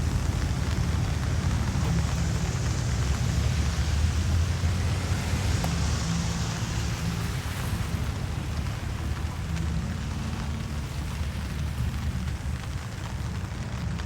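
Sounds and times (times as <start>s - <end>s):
constant low rumble: 0.0s - 14.0s
steady rain hiss: 0.0s - 14.0s.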